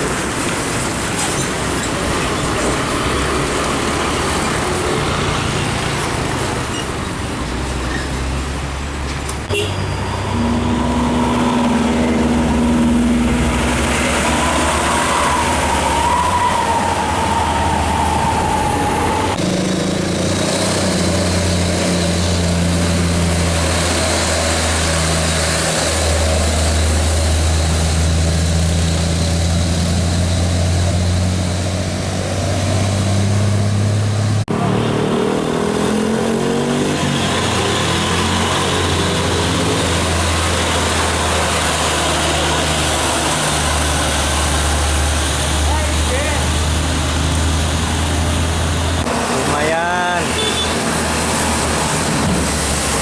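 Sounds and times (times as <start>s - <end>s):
diesel truck engines passing: 0.0s - 53.0s
truck engine pulling away: 0.0s - 53.0s.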